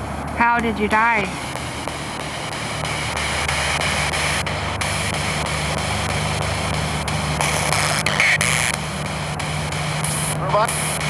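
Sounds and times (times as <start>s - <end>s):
low hum: 0.0s - 11.0s
radio static hiss: 0.3s - 11.0s
snatches of radio sound: 0.4s - 11.0s
quick clicks: 1.4s - 11.0s.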